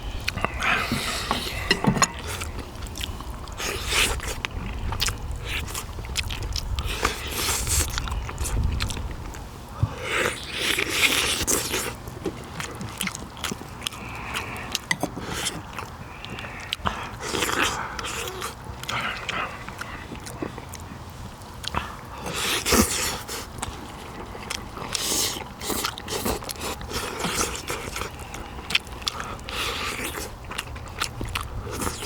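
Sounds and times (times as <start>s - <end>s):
person chewing close up: 0.0s - 32.0s.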